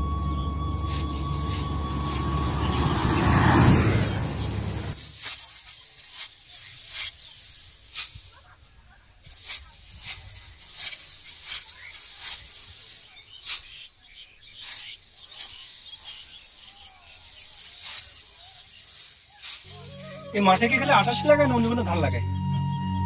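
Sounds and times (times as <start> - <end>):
dry straw rustling: 0.0 - 3.6, 4.2 - 22.4
sickle cutting rice stalks: 0.2 - 22.4.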